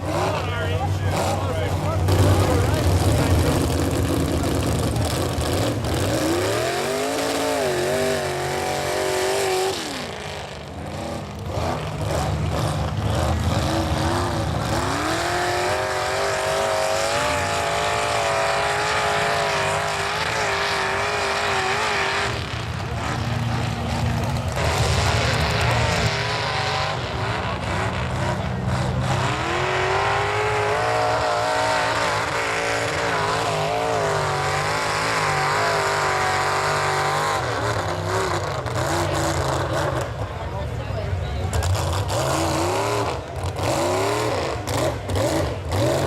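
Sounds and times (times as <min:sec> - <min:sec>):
truck engine revving: 0:00.0 - 0:46.0.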